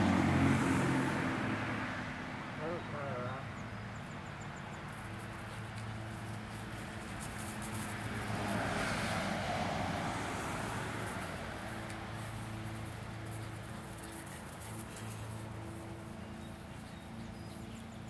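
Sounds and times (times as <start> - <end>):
vehicle passing on road: 0.0 - 18.0.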